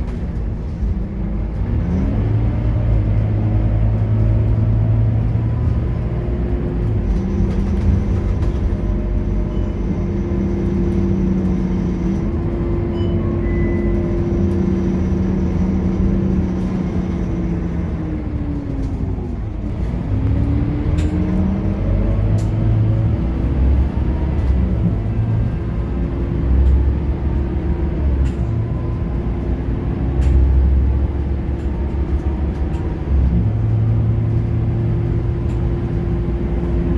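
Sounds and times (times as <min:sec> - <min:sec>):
bus diesel engine pulling: 0:00.0 - 0:36.9.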